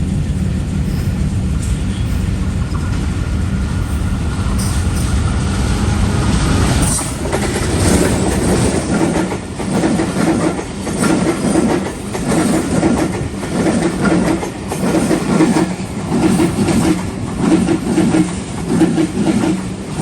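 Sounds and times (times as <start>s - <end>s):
train rumbling past: 0.0s - 20.0s
train wheels clickety-clack: 0.0s - 20.0s.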